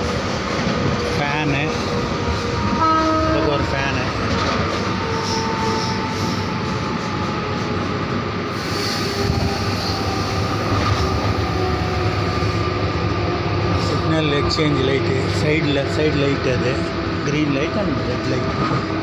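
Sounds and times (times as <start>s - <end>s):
train rumbling and rattling: 0.0s - 19.0s.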